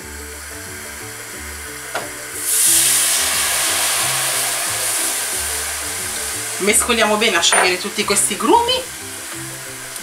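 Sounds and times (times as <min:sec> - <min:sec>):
background music: 0:00.0 - 0:10.0
milk hissing in hot pan: 0:00.0 - 0:10.0.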